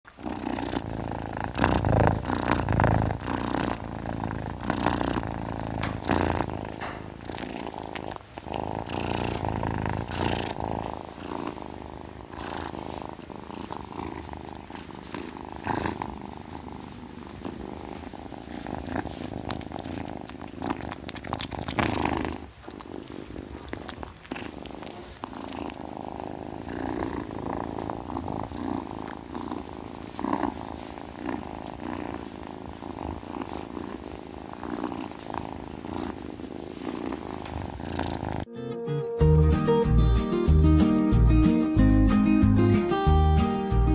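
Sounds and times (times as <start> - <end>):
cat purring: 0.0 - 38.5.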